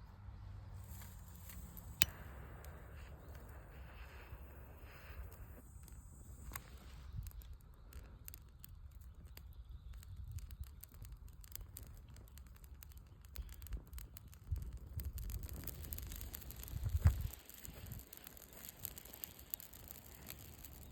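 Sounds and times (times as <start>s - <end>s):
fire crackling and popping: 0.4s - 20.9s.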